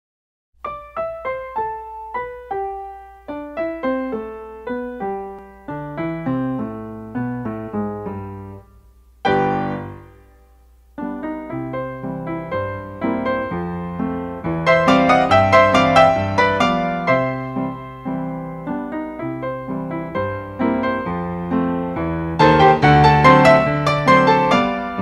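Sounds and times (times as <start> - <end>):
piano music: 0.6 - 25.0.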